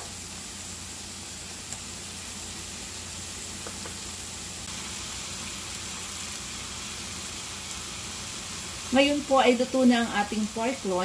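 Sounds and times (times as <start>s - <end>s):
meat and onions sizzling in a skillet: 0.0s - 11.0s.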